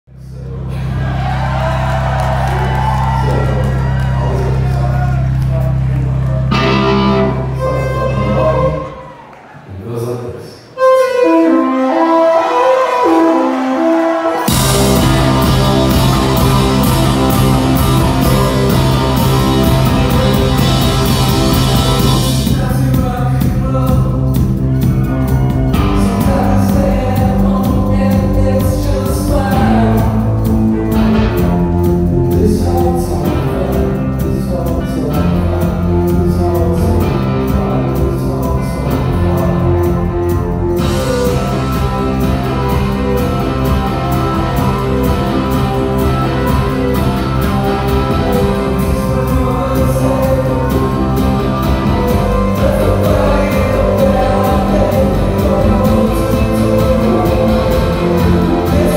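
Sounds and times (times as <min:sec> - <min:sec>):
keyboard chords: 0:00.4 - 0:09.3, 0:09.9 - 0:58.9
electric guitar: 0:00.6 - 0:09.2, 0:10.8 - 0:58.9
drum kit: 0:01.0 - 0:08.9, 0:13.1 - 0:58.9.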